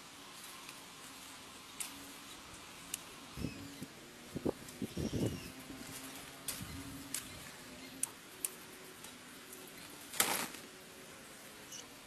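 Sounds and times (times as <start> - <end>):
branches rustling: 0.0 - 12.0.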